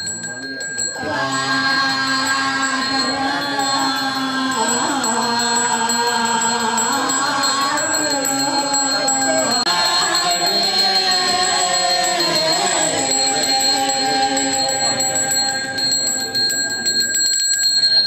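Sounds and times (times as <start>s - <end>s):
man chanting: 0.0s - 17.0s
hand bell ringing: 0.0s - 18.0s.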